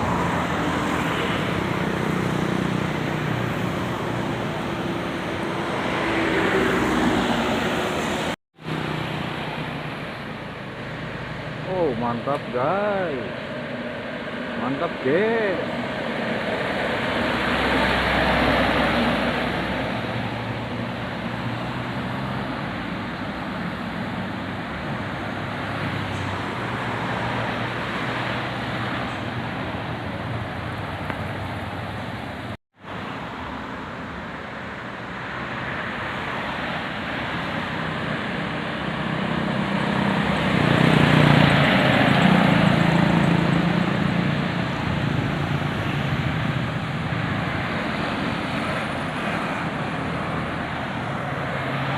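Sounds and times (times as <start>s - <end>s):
heavy engine passing: 0.0s - 51.9s
vehicles driving past: 0.0s - 51.9s.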